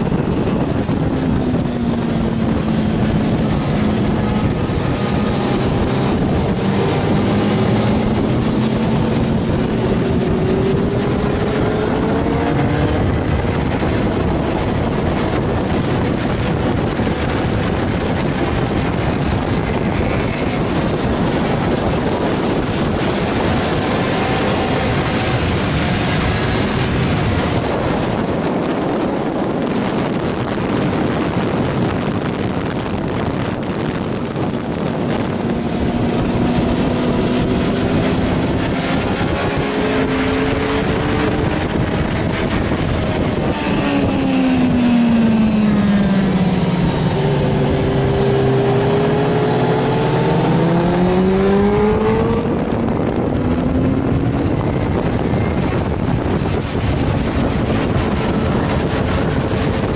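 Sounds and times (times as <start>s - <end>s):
motorcycle engine at speed: 0.0s - 59.9s
wind rush over microphone: 0.0s - 59.9s.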